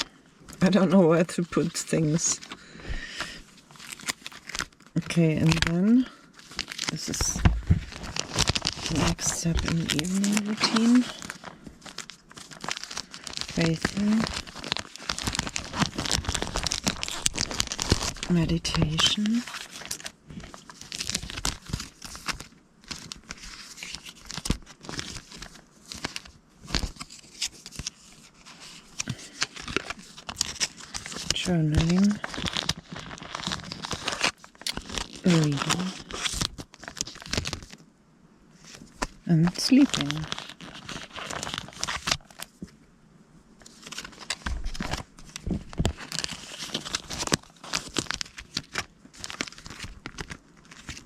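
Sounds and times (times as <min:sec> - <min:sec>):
paper crinkling and rustling: 0:00.0 - 0:37.8, 0:38.5 - 0:42.8, 0:43.6 - 0:51.0.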